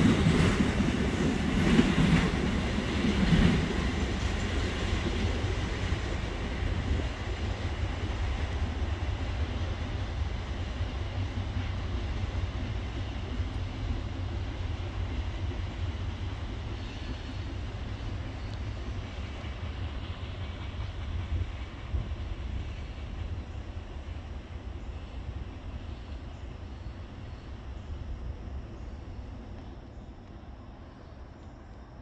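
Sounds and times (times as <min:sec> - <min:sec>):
train wheels clattering on rails: 0:00.0 - 0:27.4
low train rumble: 0:00.0 - 0:32.0.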